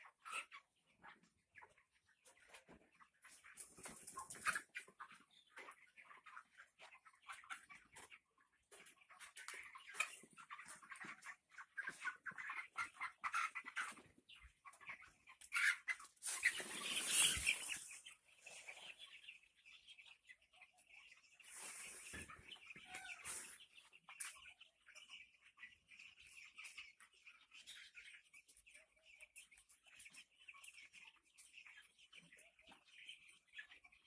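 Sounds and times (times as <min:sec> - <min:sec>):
chickens clucking and cheeping: 0:00.0 - 0:34.0.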